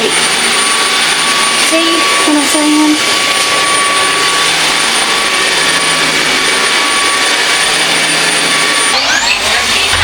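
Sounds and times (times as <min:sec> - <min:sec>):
vacuum mop motor whine: 0:00.0 - 0:10.0.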